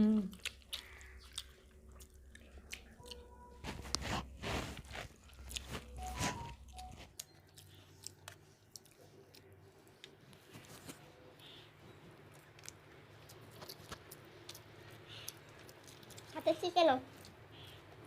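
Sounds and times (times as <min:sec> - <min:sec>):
person chewing food: 0:00.0 - 0:11.0, 0:11.9 - 0:16.4, 0:17.1 - 0:18.0.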